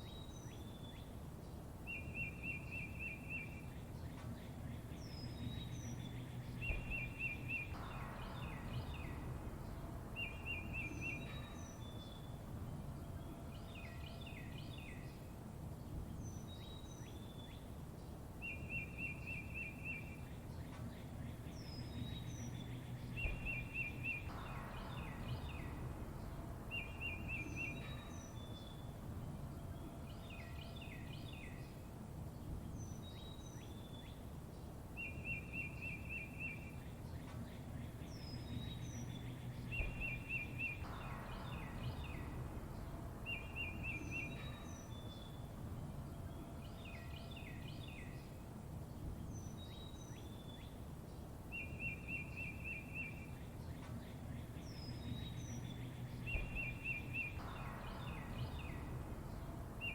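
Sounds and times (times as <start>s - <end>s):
songbirds chirping and calling: 0.0s - 59.9s
steady low rumble: 3.6s - 18.4s, 20.0s - 59.9s.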